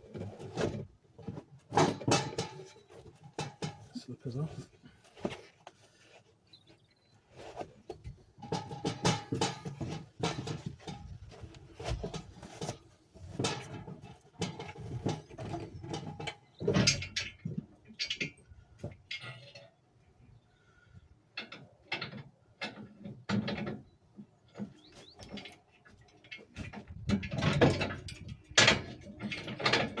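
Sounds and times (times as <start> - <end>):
knocks and clatter of gear: 0.0 - 19.6, 21.4 - 30.0.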